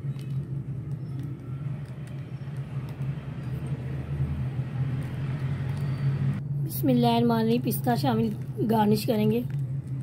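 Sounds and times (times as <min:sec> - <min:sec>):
rumbling background noise: 0:00.0 - 0:10.0
steady low hum: 0:00.0 - 0:10.0.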